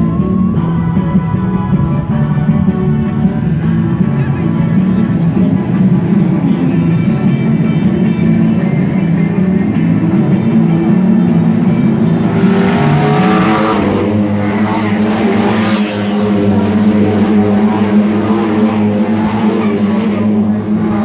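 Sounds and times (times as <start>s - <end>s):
race car engines at full throttle: 0.0s - 21.0s.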